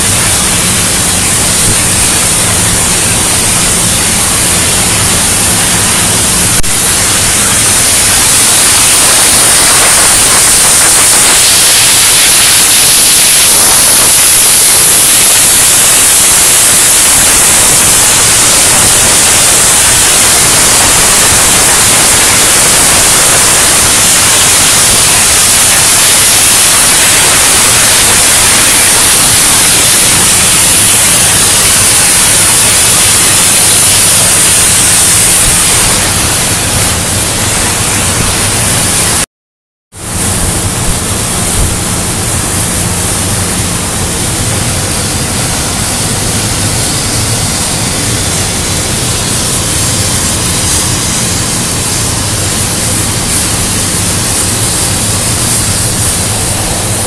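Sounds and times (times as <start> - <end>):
cutting torch hissing: 0.0 - 39.3, 40.0 - 57.0.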